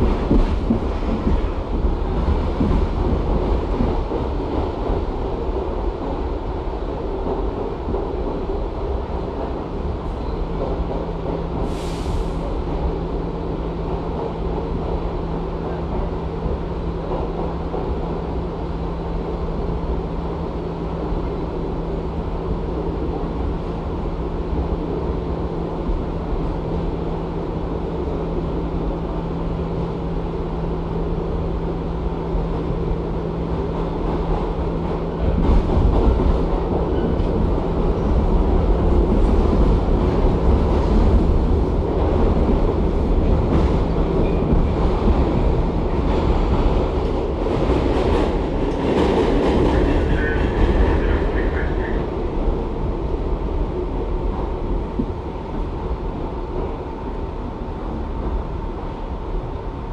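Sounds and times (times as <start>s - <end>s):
subway car wheel rumble: 0.0s - 59.9s.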